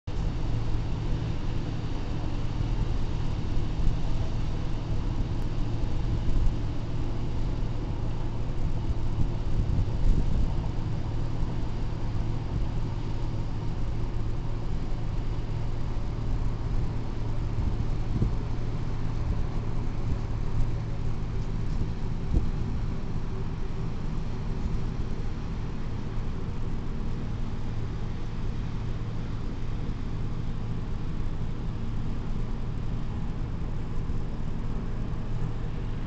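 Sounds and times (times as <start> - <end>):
low engine rumble: 0.0 - 36.0.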